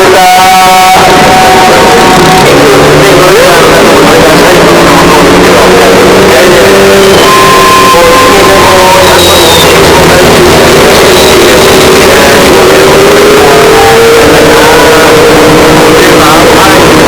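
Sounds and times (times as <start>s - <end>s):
distorted rotary engine high revs: 0.0s - 17.0s.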